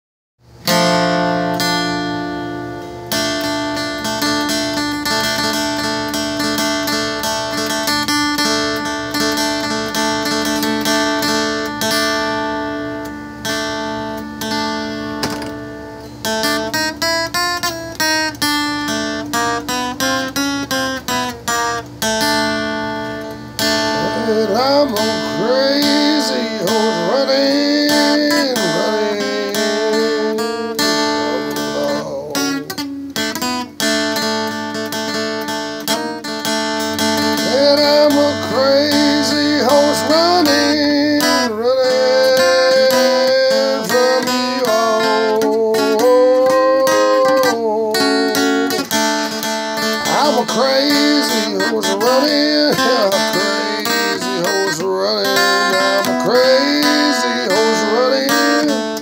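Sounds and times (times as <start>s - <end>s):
acoustic blues guitar: 0.4s - 59.0s.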